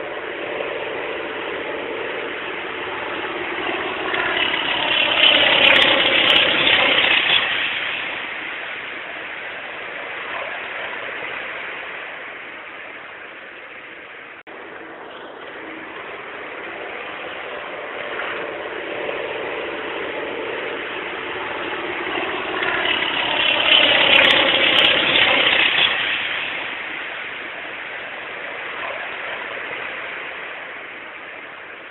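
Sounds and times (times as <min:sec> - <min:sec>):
propeller aeroplane flying past: 0:00.0 - 0:31.9.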